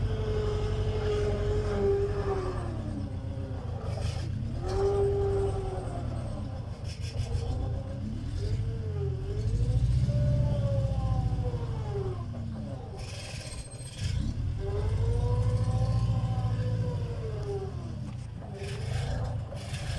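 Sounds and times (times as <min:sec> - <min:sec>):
loader engine working hard: 0:00.0 - 0:19.9.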